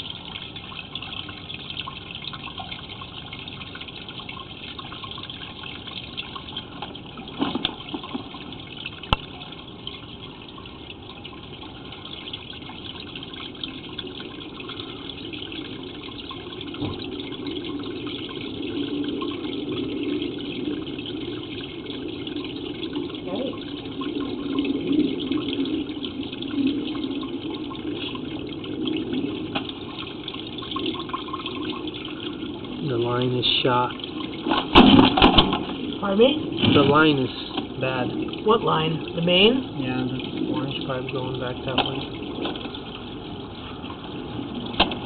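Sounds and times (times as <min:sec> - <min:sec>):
water running in pipe: 0:00.0 - 0:45.0.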